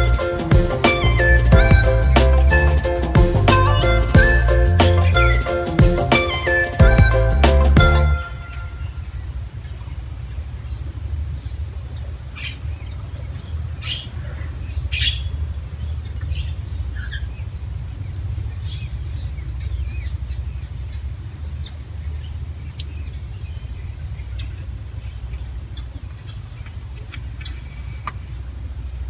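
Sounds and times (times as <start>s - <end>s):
steady low rumble: 0.0s - 6.1s, 6.8s - 29.0s
birds chirping: 0.0s - 28.6s.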